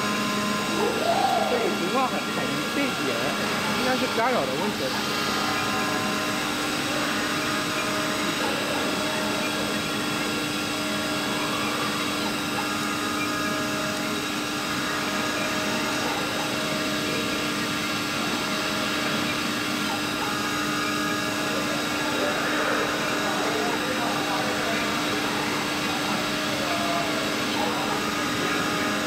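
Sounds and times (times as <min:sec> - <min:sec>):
machine whining tones: 0:00.0 - 0:29.0
milling machine motor hum: 0:00.0 - 0:29.0.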